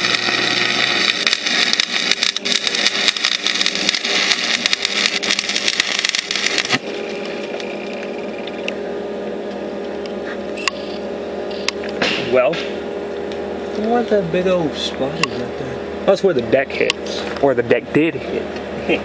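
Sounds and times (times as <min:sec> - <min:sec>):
steady hum: 0:00.0 - 0:19.0
welding arc crackling: 0:00.0 - 0:19.0.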